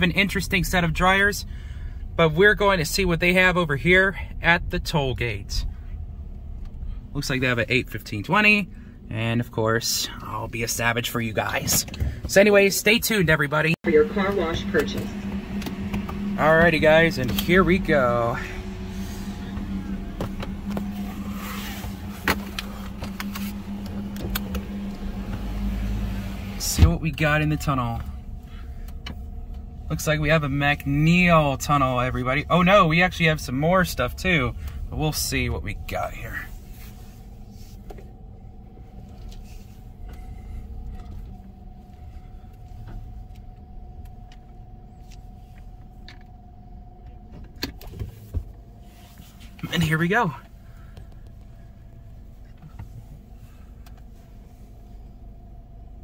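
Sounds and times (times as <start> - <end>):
car engine idling: 0.0 - 56.0
machinery whine: 9.9 - 56.0.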